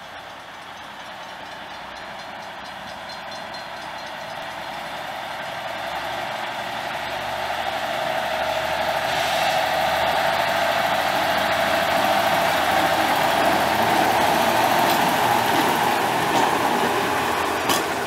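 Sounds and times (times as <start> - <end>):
diesel locomotive approaching: 0.0 - 18.0.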